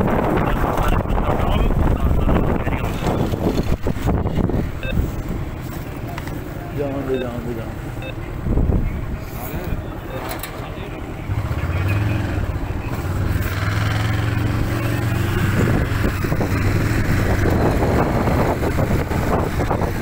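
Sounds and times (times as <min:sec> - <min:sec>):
wind buffeting microphone: 0:00.0 - 0:06.5, 0:07.8 - 0:10.1, 0:12.4 - 0:20.0.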